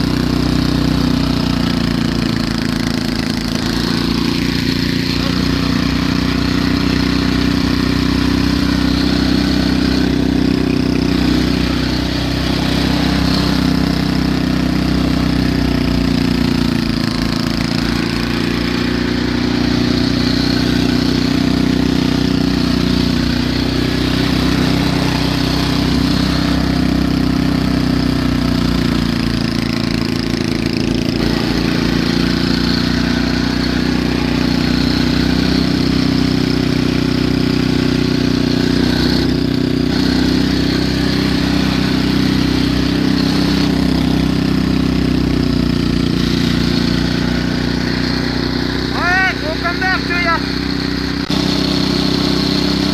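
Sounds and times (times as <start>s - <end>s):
snowblower engine running: 0.0s - 52.9s.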